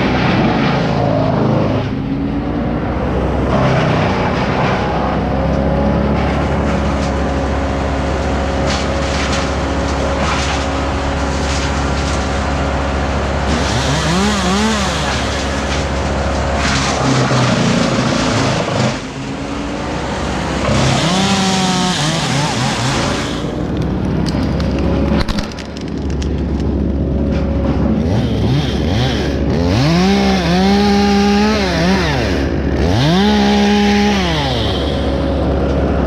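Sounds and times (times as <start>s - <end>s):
machinery engines running: 0.0s - 36.0s
engine revving with hissing whine: 3.0s - 23.7s, 27.8s - 36.0s.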